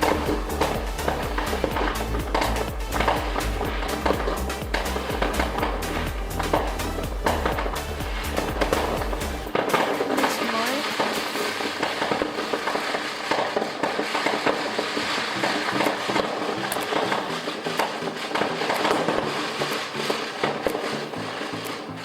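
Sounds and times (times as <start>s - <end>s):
fireworks crackling and popping: 0.0s - 22.0s
stepped steady tones: 0.0s - 22.0s.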